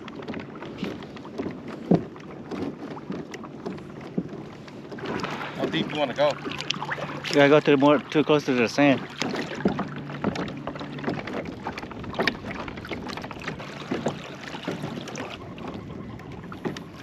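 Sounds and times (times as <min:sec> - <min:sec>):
gear knocking on hull: 0:00.0 - 0:17.0
water splashing around kayak: 0:00.0 - 0:17.0.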